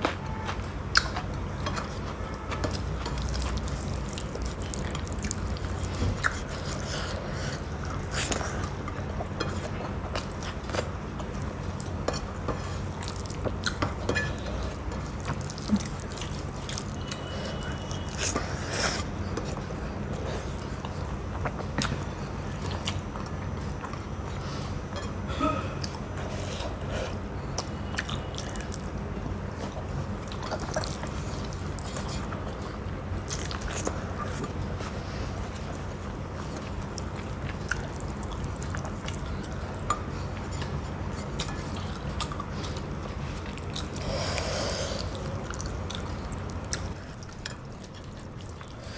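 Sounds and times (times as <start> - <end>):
steady low hum: 0.0 - 48.9
wet chewing and mouth smacks: 0.9 - 24.5, 29.6 - 48.9.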